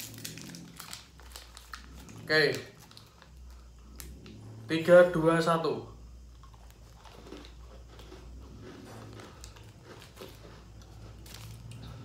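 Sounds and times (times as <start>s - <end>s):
small crackles: 0.0s - 4.4s, 6.4s - 12.0s
chewing crunchy cookie: 0.0s - 4.7s, 6.1s - 12.0s
steady low hum: 0.0s - 12.0s.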